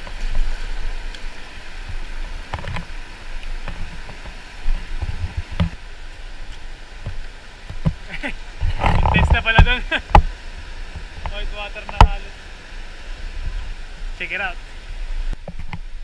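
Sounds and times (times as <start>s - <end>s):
boat rushing through water: 0.0s - 16.0s.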